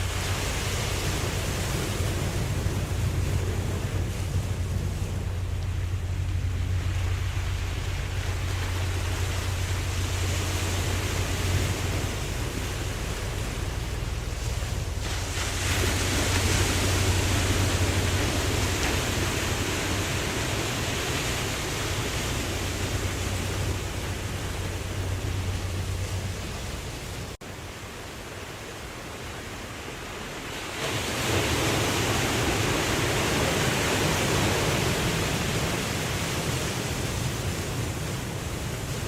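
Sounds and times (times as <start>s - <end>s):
ocean waves washing: 0.0s - 39.0s.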